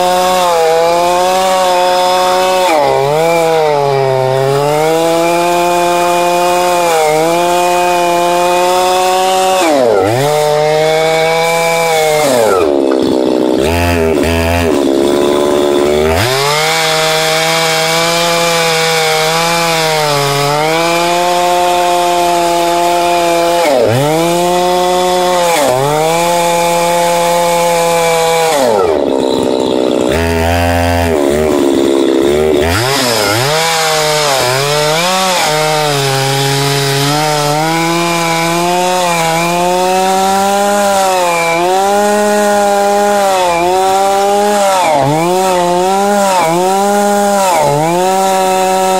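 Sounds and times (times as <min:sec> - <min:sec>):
chainsaw cutting a log: 0:00.0 - 0:48.9.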